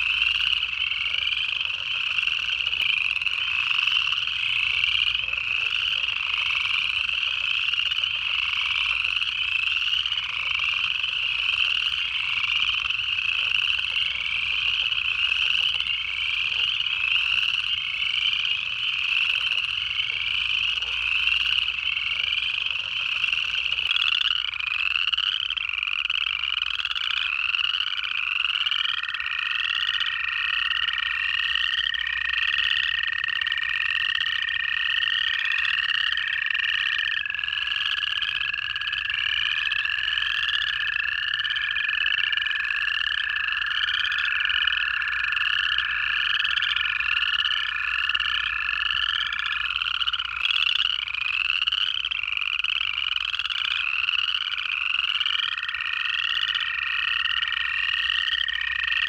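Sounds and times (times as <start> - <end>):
chorus of frogs trilling: 0.0 - 59.0.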